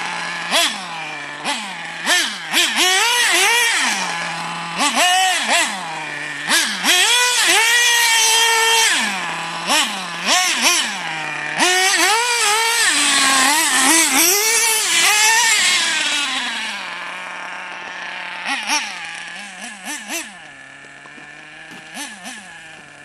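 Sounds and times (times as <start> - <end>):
toy car motor revving: 0.0 - 23.0.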